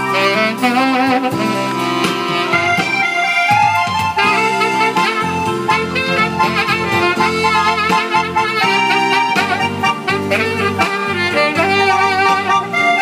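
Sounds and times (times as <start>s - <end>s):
electronic keyboard accompaniment: 0.0s - 13.0s
saxophone melody with vibrato: 0.0s - 13.0s.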